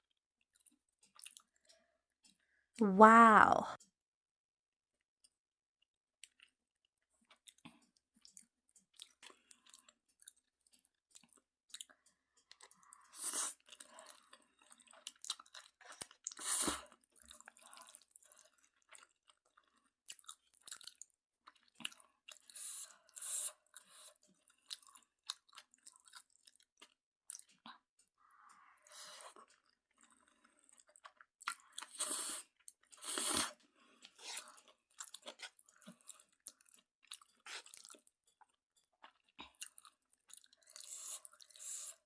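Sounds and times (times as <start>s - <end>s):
person chewing noodles: 0.5s - 1.8s, 6.2s - 6.5s, 7.2s - 42.0s.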